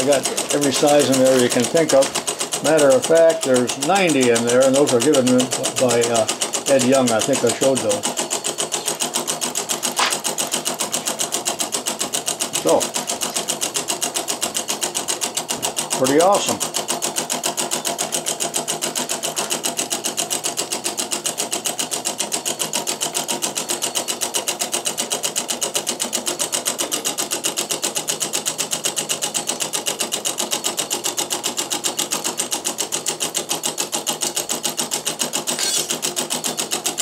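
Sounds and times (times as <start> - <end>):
model engine rapid clacking: 0.0 - 37.0.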